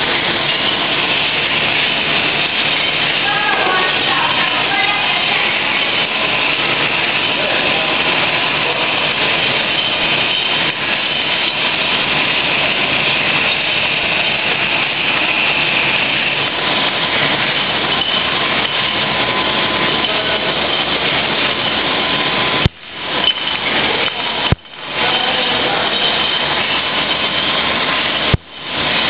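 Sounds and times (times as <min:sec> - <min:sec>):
fans running: 0:00.0 - 0:29.0
screen printing machine running: 0:00.0 - 0:29.0.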